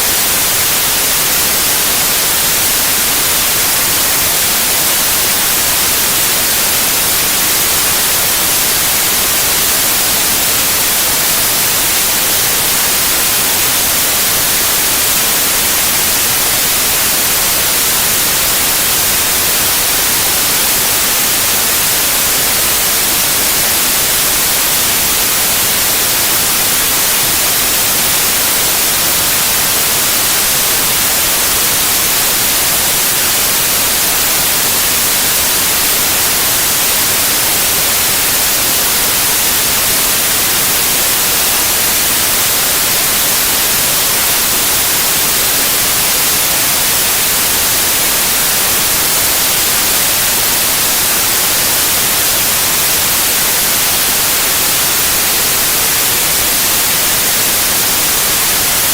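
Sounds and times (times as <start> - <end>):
white noise hiss: 0.0 - 58.9.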